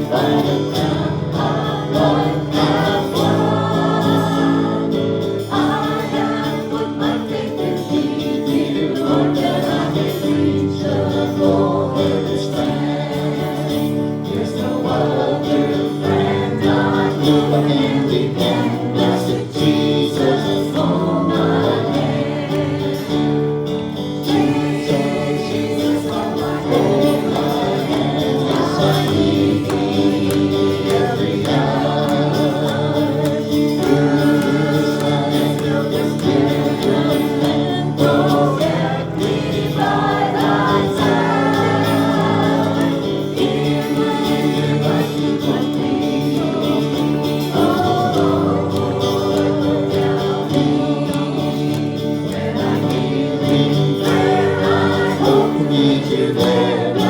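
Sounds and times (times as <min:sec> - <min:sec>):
gospel group singing with instruments: 0:00.0 - 0:57.0.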